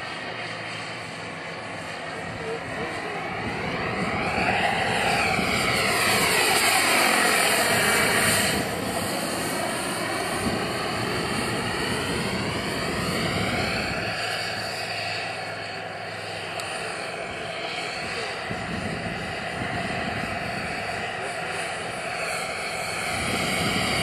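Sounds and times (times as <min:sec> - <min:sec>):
gas-turbine engine whining: 0:00.0 - 0:24.0.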